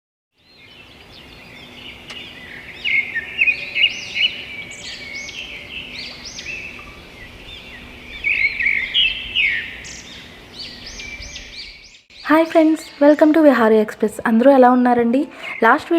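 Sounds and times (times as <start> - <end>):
songbirds chirping: 0.4 - 15.9.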